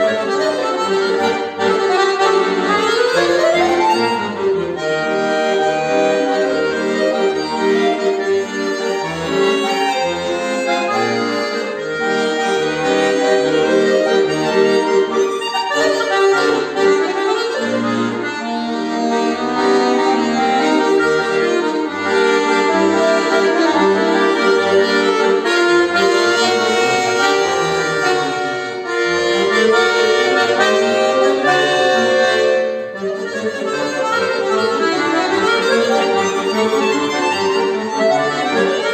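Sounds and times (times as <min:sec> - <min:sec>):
button accordion playing classical piece: 0:00.0 - 0:38.9.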